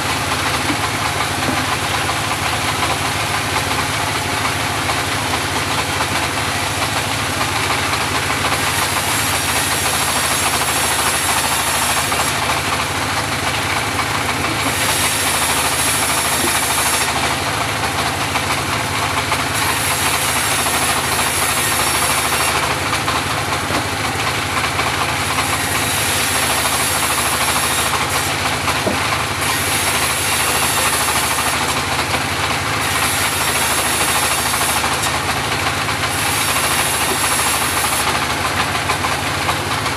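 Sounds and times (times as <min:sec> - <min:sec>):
bandsaw engine drone: 0:00.0 - 0:39.9.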